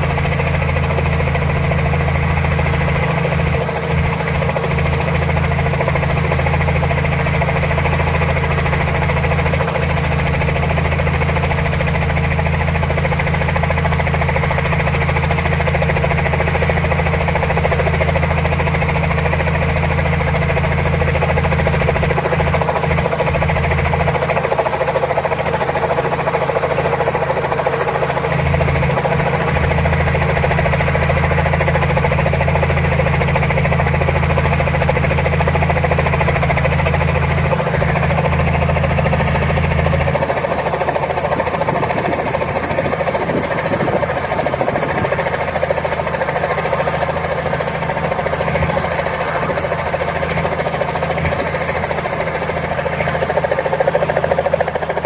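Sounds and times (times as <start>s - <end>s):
helicopter idling: 0.0s - 55.0s.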